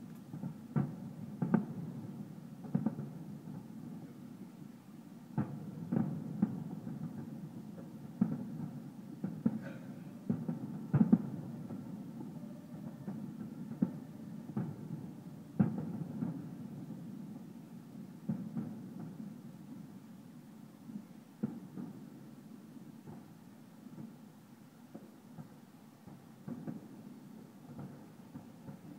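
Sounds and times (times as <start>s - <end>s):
distant fireworks bangs: 0.3s - 4.6s, 5.3s - 20.2s, 20.8s - 24.3s, 24.9s - 28.9s.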